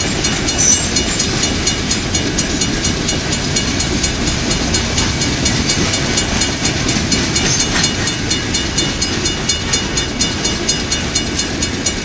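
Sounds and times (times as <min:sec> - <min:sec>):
continuous train rumble: 0:00.0 - 0:12.0
train wheels clicking over rails: 0:00.0 - 0:12.0.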